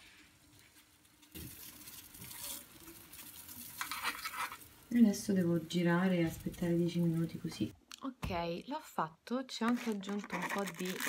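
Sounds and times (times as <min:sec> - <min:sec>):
tea fizzing and simmering: 0:00.0 - 0:07.8, 0:09.6 - 0:11.0.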